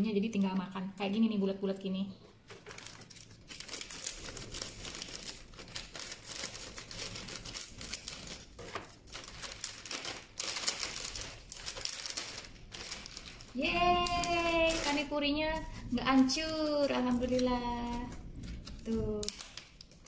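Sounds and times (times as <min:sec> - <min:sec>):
foil pouch crinkling: 0:02.4 - 0:20.0
scissors cutting foil: 0:02.5 - 0:20.0.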